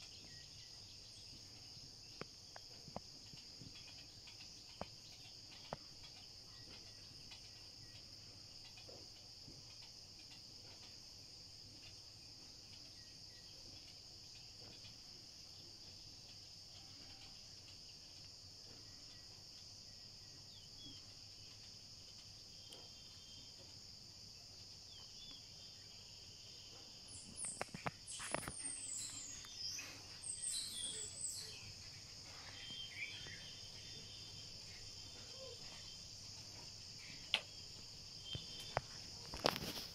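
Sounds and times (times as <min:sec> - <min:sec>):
bird calls: 0:00.0 - 0:17.8, 0:18.6 - 0:39.9
chorus of insects: 0:00.0 - 0:39.9.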